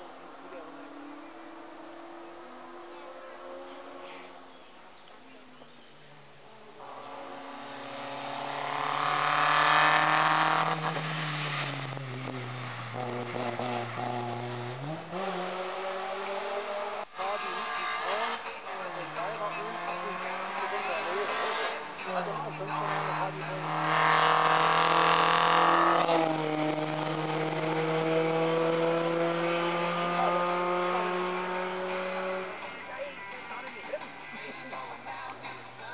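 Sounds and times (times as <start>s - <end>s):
race car engine passing: 0.1s - 4.5s, 6.8s - 35.9s.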